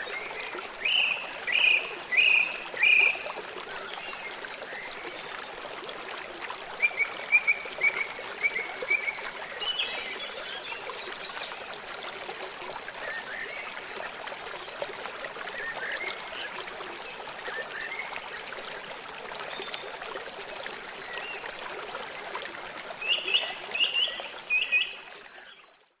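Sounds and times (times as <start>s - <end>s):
stream running water: 0.0s - 26.0s.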